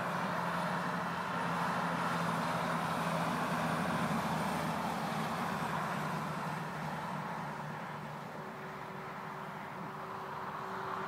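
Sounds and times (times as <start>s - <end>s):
tyre hiss of highway traffic: 0.0s - 11.0s
vehicle engine hum: 0.0s - 11.0s.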